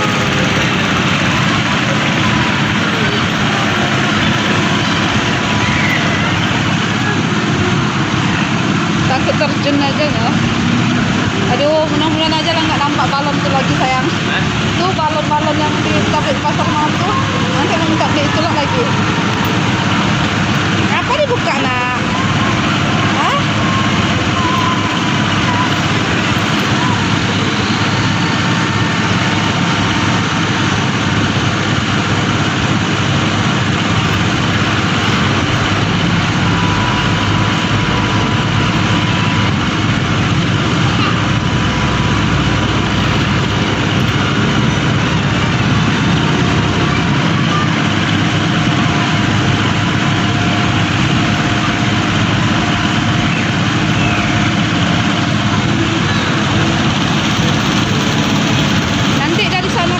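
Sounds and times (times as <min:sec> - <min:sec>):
steady rushing noise with low hum: 0:00.0 - 0:59.9.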